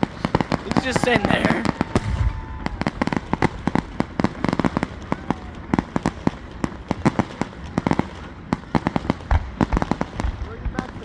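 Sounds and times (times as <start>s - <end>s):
fireworks bangs and crackling pops: 0.0s - 11.0s.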